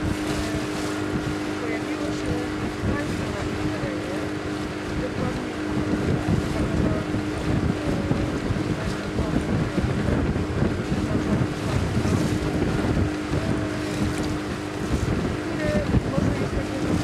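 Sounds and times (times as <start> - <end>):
boat motor hum: 0.0 - 17.0
water rushing past: 0.0 - 17.0
wind buffeting microphone: 0.0 - 17.0.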